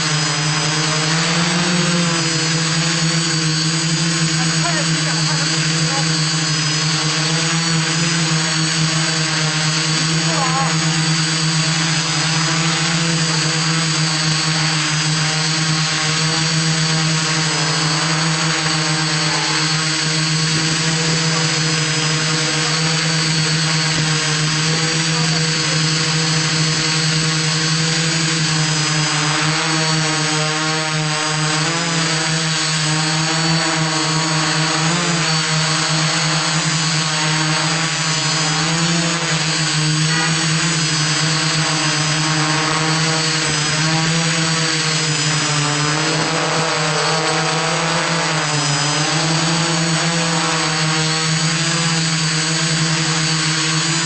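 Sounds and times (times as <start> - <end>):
drone propellers whining: 0.0 - 54.0.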